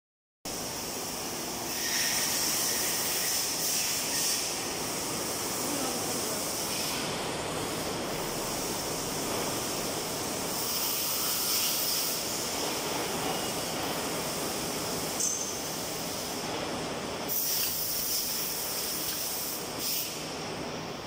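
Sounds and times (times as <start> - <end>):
steady hissing workshop noise: 0.5 - 21.0.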